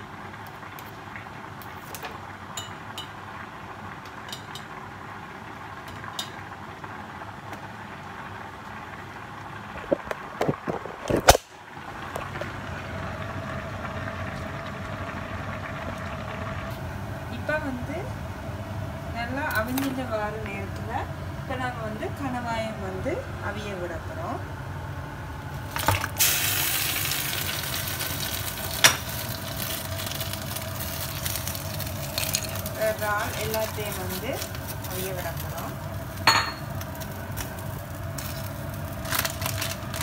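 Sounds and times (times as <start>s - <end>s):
water boiling hard: 0.0s - 22.4s, 23.0s - 40.0s
extractor fan running: 6.6s - 40.0s.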